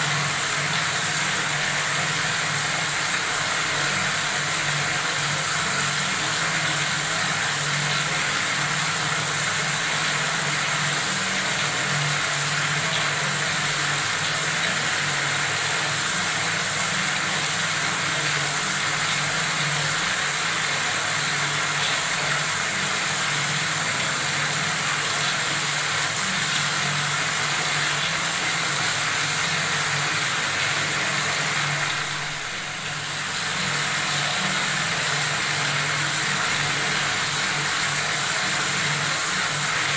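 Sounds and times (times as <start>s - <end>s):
water running from tap: 0.0s - 39.9s.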